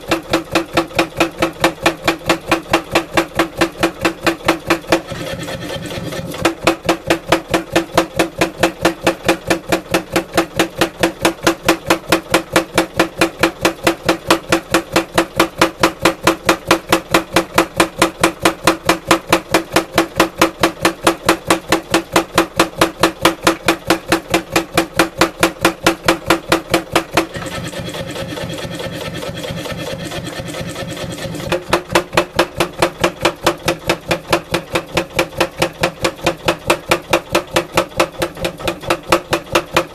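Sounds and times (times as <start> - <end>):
power hammer striking hot steel: 0.0 - 5.2, 6.2 - 27.6, 28.2 - 39.9.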